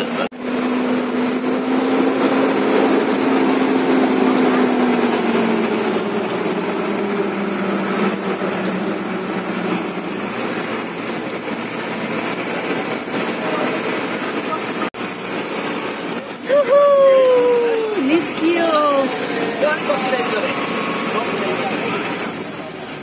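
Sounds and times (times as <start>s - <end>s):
bus engine humming: 0.0s - 23.0s
road noise: 0.0s - 23.0s.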